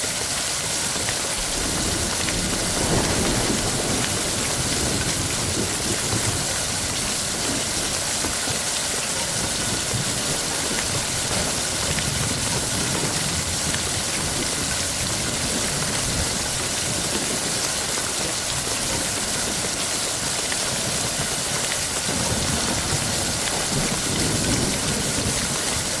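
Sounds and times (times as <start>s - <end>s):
heavy rain falling: 0.0s - 26.0s
thunder rumbling: 1.4s - 26.0s.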